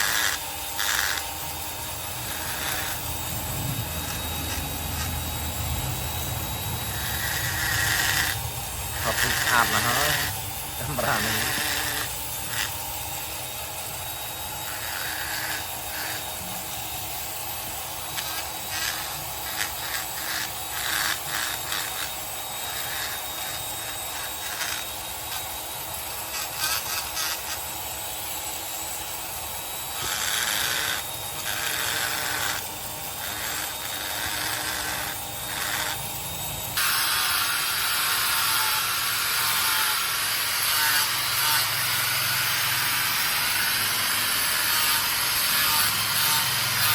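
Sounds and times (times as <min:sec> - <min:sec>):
continuous grinding noise: 0:00.0 - 0:46.9
tools scraping a sculpture: 0:00.0 - 0:46.9.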